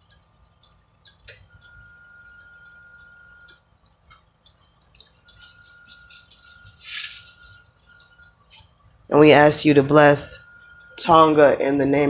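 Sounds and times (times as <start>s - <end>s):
thin steady high tone: 0.0s - 12.0s.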